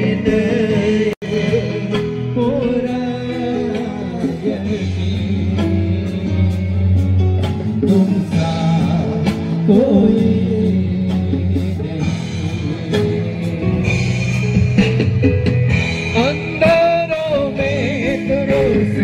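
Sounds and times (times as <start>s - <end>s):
steady bass: 0.0s - 19.0s
worship song singing: 0.0s - 19.0s.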